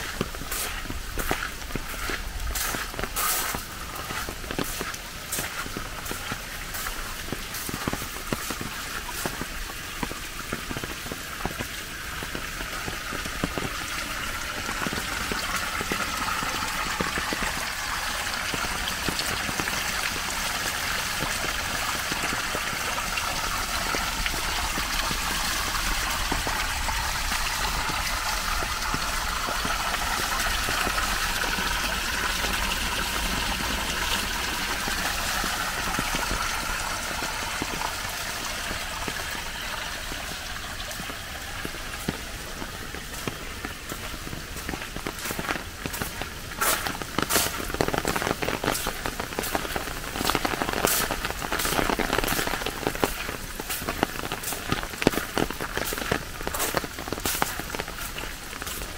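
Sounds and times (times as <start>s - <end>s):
rain falling: 0.0s - 58.9s
running water flowing: 0.0s - 58.9s.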